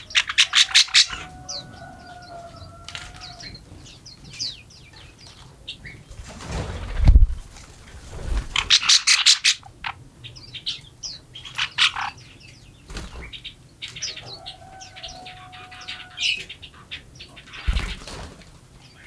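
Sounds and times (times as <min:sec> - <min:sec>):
small songbirds chirping: 0:00.0 - 0:06.3, 0:08.4 - 0:19.0.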